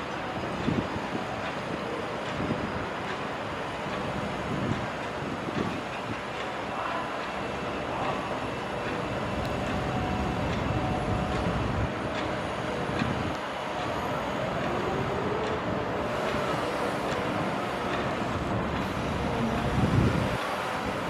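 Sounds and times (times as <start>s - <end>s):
diesel engines rumbling: 0.0s - 21.0s.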